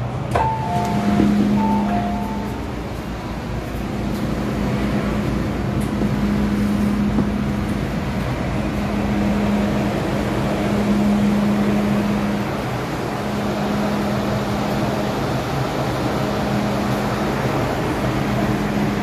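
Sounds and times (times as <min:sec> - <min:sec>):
low drone: 0:00.0 - 0:19.0
stopped train equipment humming: 0:00.0 - 0:19.0.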